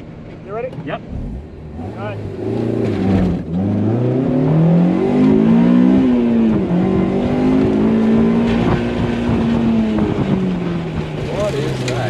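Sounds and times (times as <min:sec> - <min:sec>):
car engine revving hard: 0:01.0 - 0:12.0.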